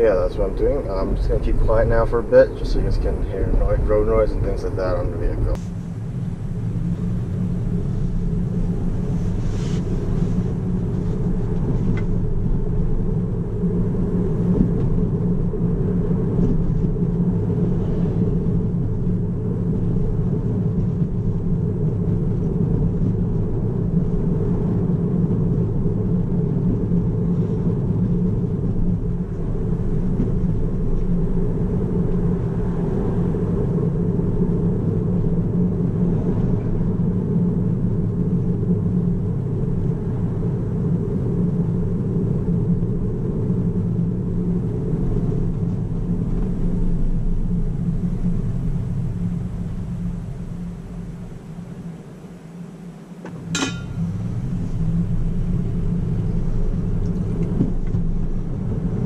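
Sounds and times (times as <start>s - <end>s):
road and tyre noise in car cabin: 0.0s - 59.0s.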